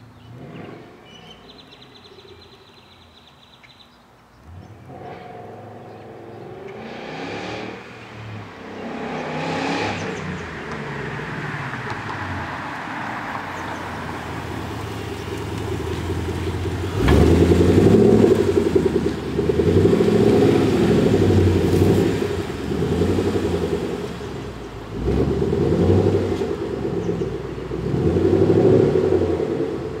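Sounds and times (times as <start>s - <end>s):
car engine revving: 4.5s - 30.0s.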